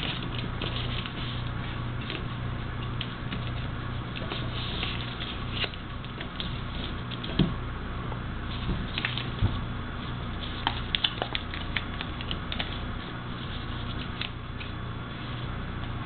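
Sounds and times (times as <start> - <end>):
paper being folded and creased: 0.0 - 7.3, 8.5 - 9.4, 10.4 - 15.4
steady low hum: 0.0 - 16.0.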